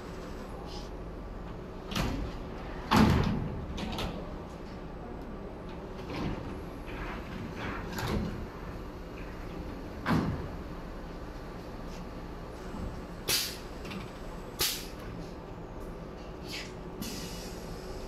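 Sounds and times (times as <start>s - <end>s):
steady factory hum: 0.0s - 18.0s.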